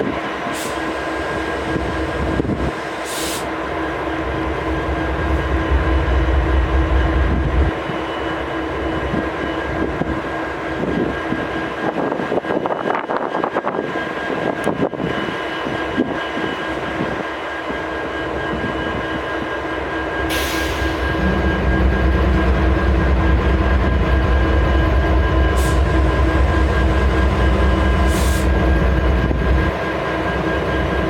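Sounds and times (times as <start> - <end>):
diesel locomotive idling: 0.2 - 11.7, 16.4 - 31.0
constant whine: 3.7 - 31.0.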